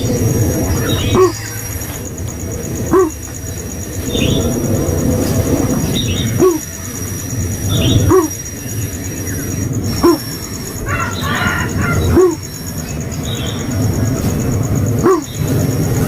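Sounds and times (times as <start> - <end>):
bird low hooting calls: 0.0 - 16.0
faint higher chirps: 0.0 - 16.0.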